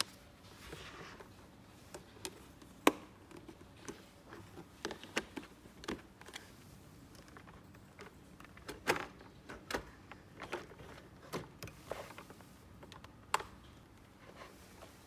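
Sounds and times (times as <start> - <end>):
toys and packaging clicking: 2.0 - 14.0.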